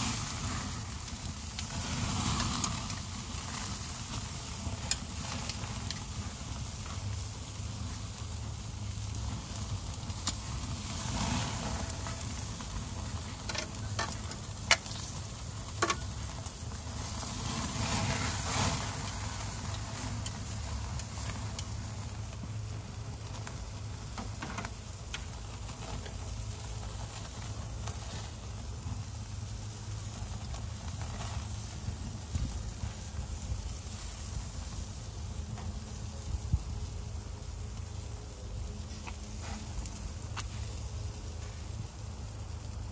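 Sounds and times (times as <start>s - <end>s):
steak sizzling on a grill: 0.0s - 42.9s.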